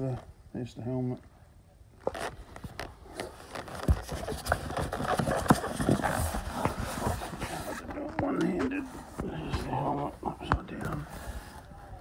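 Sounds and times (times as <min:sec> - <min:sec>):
helmet handling rustling and scraping: 0:02.0 - 0:12.0.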